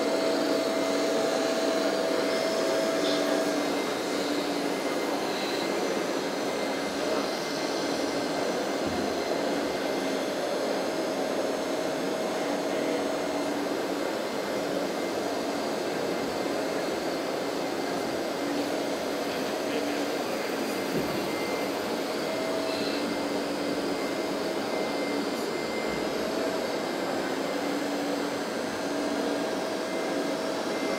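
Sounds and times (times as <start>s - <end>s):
hydraulic pump whirring hum: 0.0s - 30.9s.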